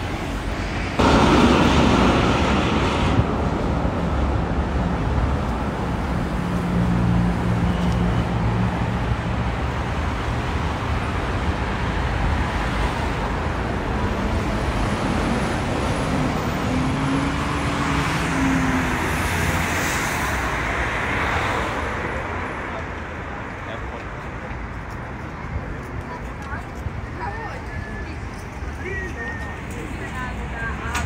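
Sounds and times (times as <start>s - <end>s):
passing vehicle engine hum: 0.0s - 26.3s
city street traffic: 0.0s - 31.0s.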